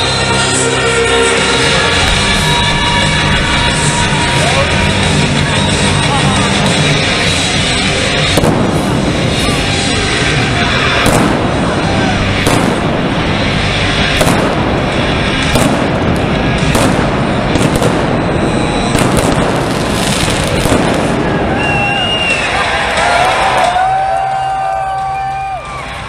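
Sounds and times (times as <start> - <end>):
sharp fireworks bangs: 0.0 - 23.7
flame cannons rushing: 1.0 - 26.0.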